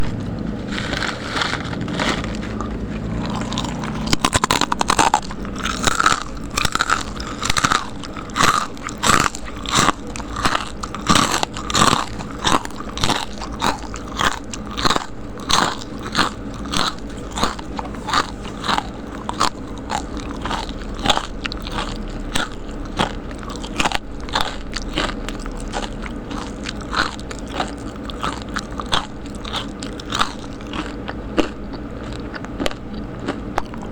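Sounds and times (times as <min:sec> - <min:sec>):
person chewing crispy snacks: 0:00.0 - 0:33.9.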